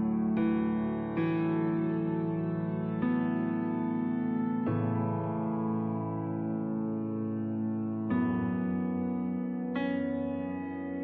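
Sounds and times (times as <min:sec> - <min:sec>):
calm background music: 0:00.0 - 0:11.0.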